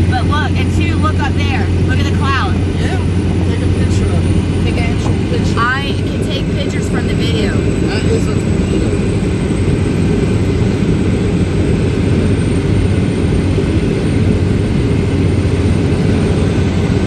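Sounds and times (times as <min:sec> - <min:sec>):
strong wind: 0:00.0 - 0:17.0.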